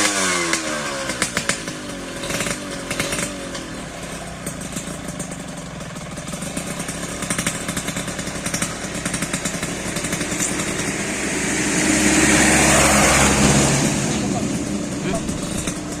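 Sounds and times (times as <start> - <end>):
two-stroke engine popping and revving: 0.0 - 16.0.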